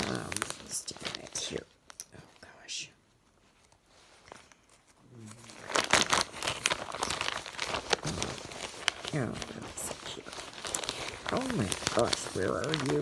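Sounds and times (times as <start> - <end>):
plastic bag crinkling: 0.0 - 2.4, 3.4 - 13.0.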